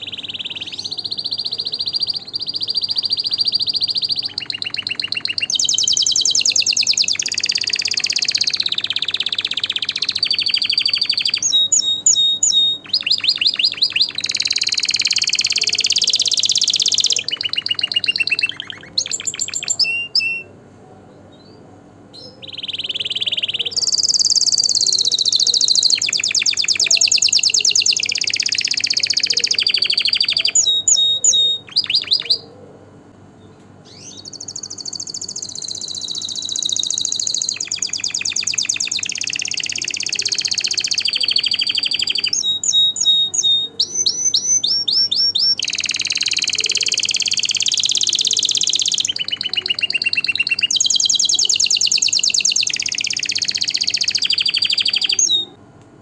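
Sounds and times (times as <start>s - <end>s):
canary singing: 0.0s - 55.6s.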